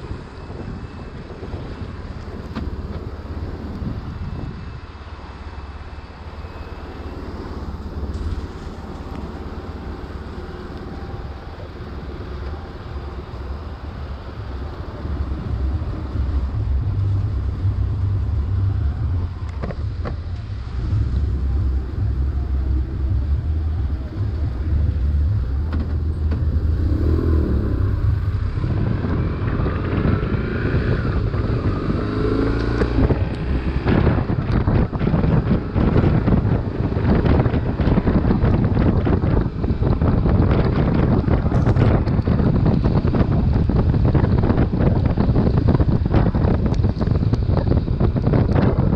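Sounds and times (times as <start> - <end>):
motorcycle engine rumbling: 0.0 - 48.9
wind buffeting microphone: 0.0 - 48.9.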